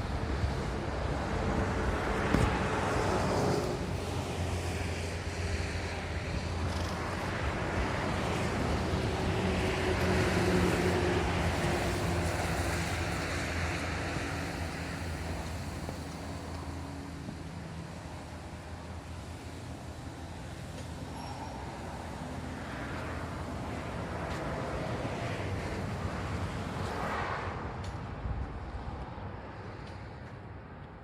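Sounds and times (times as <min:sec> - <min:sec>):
road and wind noise: 0:00.0 - 0:31.0
vehicle engine hum: 0:00.0 - 0:31.0.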